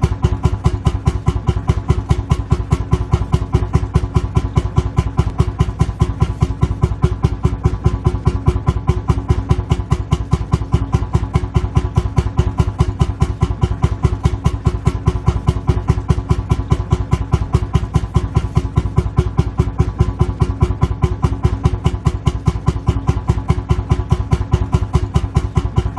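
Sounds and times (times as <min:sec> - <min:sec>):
tractor engine idling: 0:00.0 - 0:25.9.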